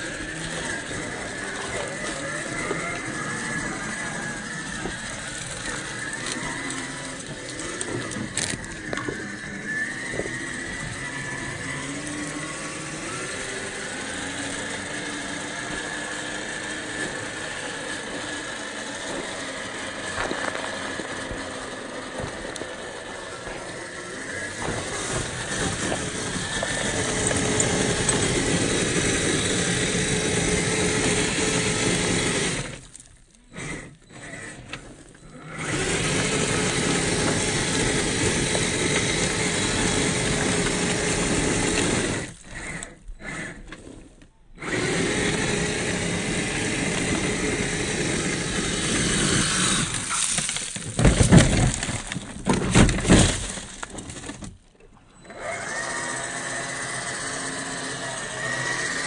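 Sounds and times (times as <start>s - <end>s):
electric motor whining: 0.0s - 54.4s, 55.1s - 59.0s.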